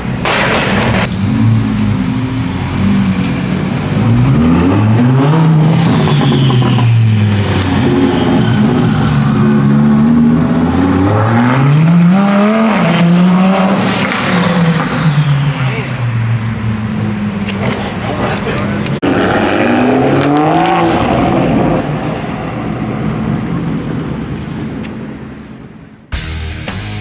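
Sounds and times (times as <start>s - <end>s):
car engine revving: 0.0s - 26.8s.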